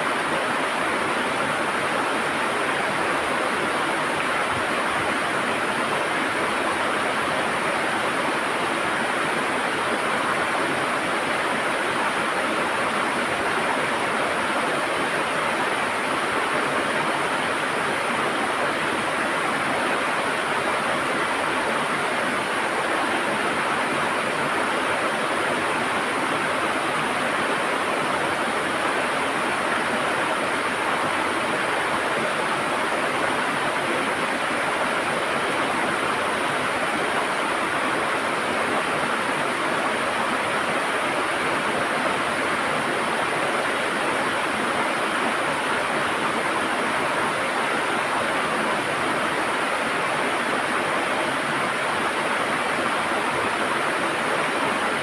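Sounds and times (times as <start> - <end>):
river water rushing over stones: 0.0 - 55.0.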